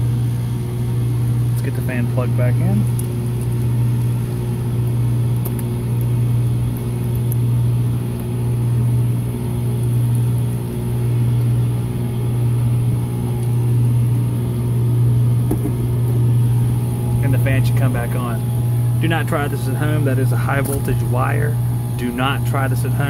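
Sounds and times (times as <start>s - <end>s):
heat pump humming: 0.0s - 23.0s.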